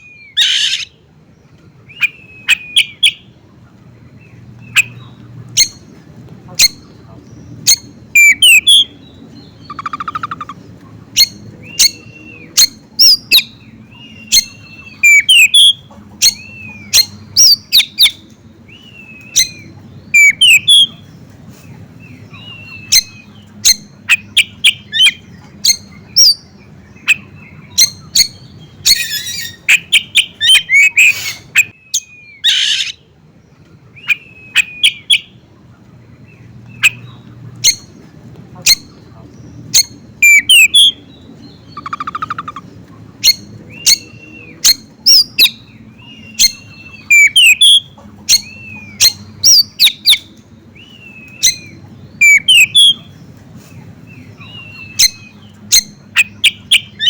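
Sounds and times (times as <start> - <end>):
harsh rasping bird calls: 0.0 - 1.1, 6.5 - 21.1, 22.3 - 33.1, 36.4 - 57.0
songbirds chirping and singing: 0.0 - 57.0.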